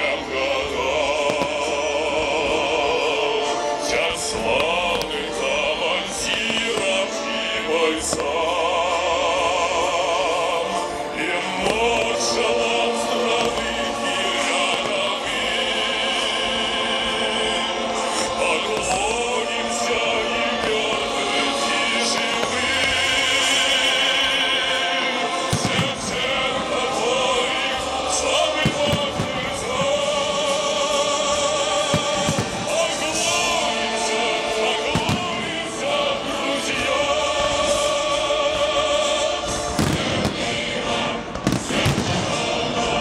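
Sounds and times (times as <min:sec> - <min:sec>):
fireworks bursting: 0:00.0 - 0:09.5, 0:10.2 - 0:43.0
choir singing with accompaniment: 0:00.0 - 0:43.0.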